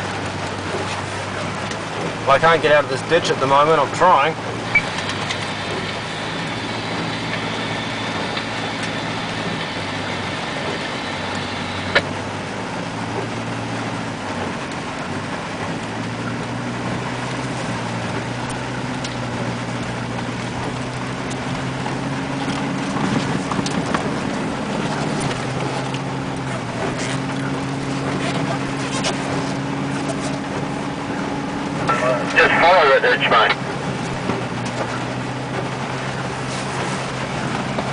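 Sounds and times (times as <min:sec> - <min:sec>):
car engine under load: 0:00.0 - 0:37.9.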